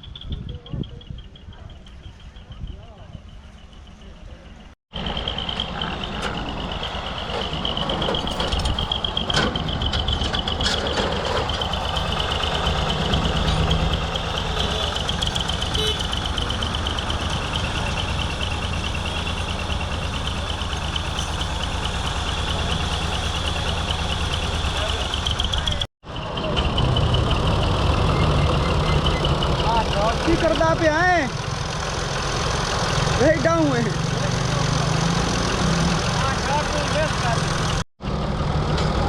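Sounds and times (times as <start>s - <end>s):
tractor engine throbbing: 4.9s - 39.0s.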